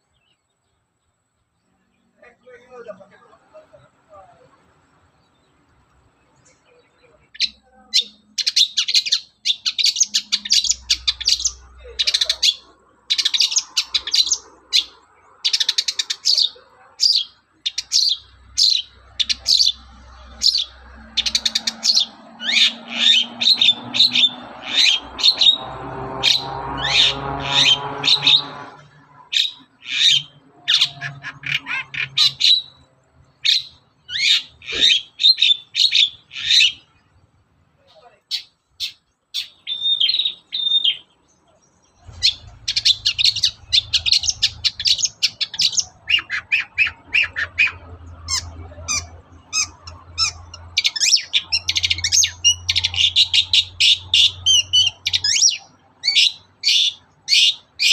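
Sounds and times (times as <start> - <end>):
shrike singing chirps and trills: 0.0 - 57.9.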